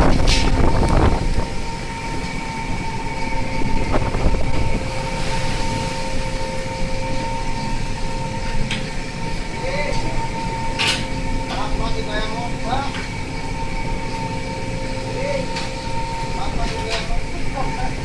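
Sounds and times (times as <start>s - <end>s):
ship engine and deck machinery rumble: 0.0s - 18.0s
two-tone whine: 0.0s - 18.0s.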